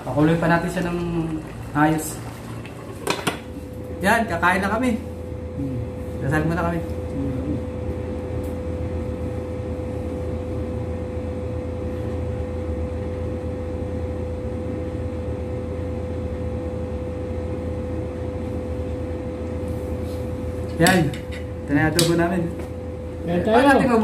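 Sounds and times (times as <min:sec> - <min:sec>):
machinery hum: 0:00.0 - 0:24.0.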